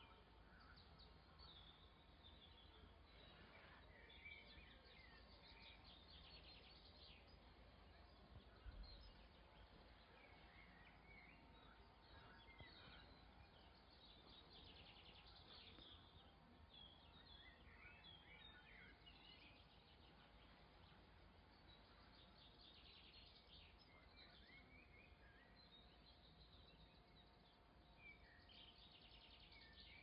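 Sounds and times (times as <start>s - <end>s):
faint birdsong with trills: 0.0s - 30.0s.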